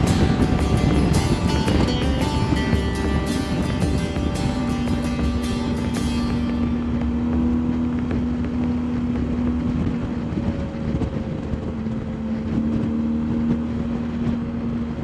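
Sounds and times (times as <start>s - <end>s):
motorcycle engine running: 0.0s - 13.6s
wind on microphone: 0.0s - 15.0s.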